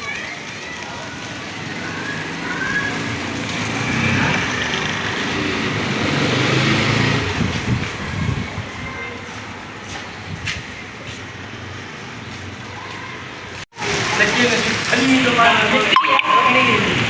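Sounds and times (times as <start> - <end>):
small vehicle passing by: 0.0 - 15.4.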